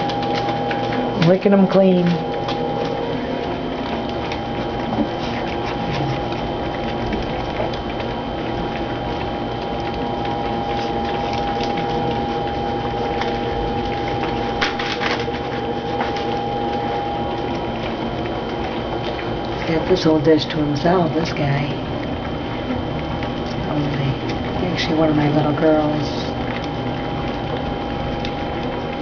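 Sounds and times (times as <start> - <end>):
puppies lapping food dishes: 0.0 - 29.0
thin whine: 0.0 - 29.0.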